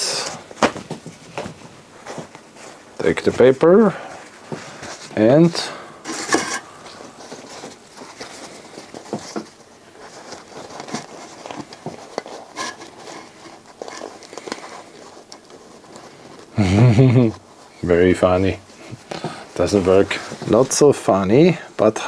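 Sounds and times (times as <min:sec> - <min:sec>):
paper towel rustling and crinkling: 0:00.0 - 0:22.0.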